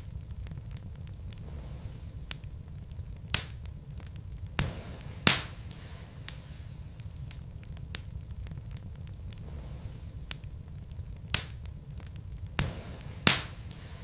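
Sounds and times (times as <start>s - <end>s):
fire flames rumbling: 0.0s - 14.0s
wood crackling and popping: 0.0s - 14.0s.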